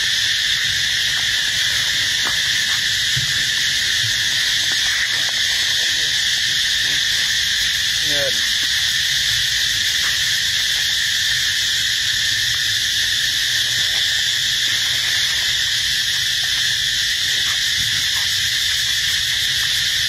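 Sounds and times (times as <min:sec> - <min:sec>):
insect chorus drone: 0:00.0 - 0:20.0.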